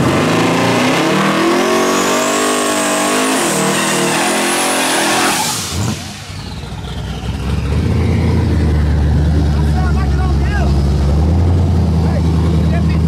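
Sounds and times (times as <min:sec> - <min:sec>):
car engine running loudly: 0:00.0 - 0:13.0.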